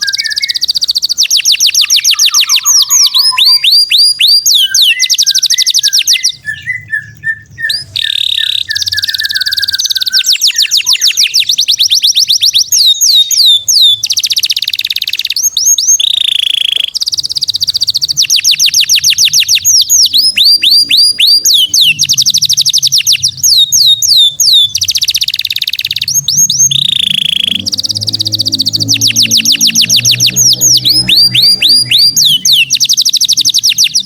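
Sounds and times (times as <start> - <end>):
songbirds singing rapid trills: 0.0 - 34.0
twittering chirps: 0.0 - 34.0.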